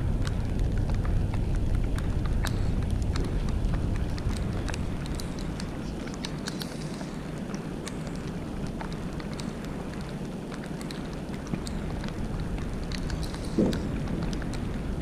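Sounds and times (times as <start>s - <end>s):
sharp ticks: 0.0s - 15.0s
wind buffeting microphone: 0.0s - 15.0s.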